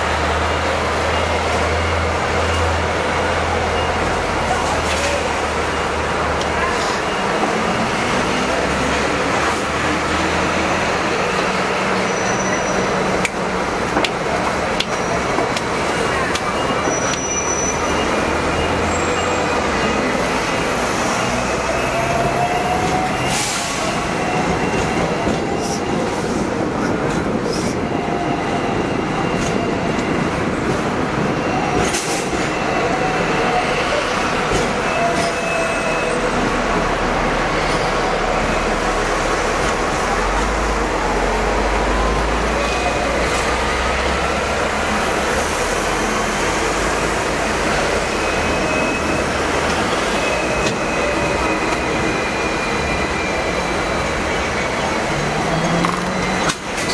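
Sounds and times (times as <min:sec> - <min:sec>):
tram rattling rumble: 0:00.0 - 0:56.9.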